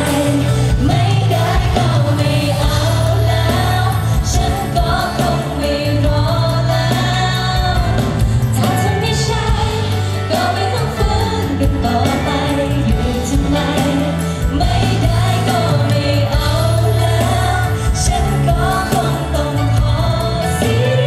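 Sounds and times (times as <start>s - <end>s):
live band with keyboard: 0.0s - 21.0s
woman singing into microphone: 0.0s - 21.0s.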